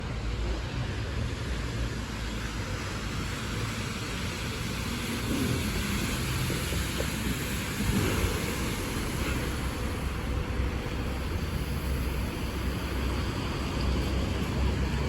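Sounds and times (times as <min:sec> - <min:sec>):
traffic engine rumble: 0:00.0 - 0:15.0
tyres hissing on wet road: 0:00.0 - 0:15.0.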